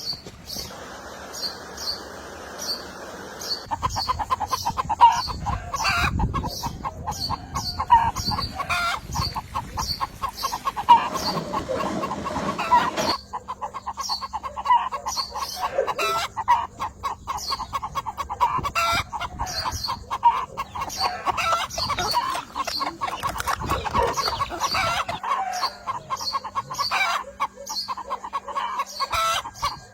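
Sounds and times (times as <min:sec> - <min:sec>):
birds calling: 0:00.0 - 0:29.9.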